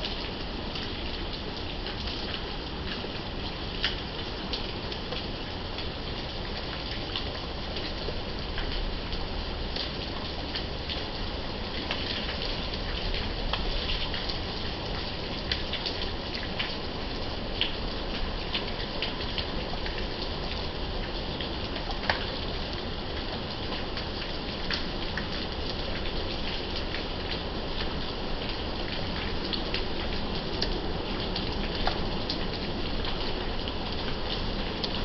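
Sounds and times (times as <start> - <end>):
raindrops ticking on hard surface: 0.0 - 35.0
steady rain falling: 0.0 - 35.0.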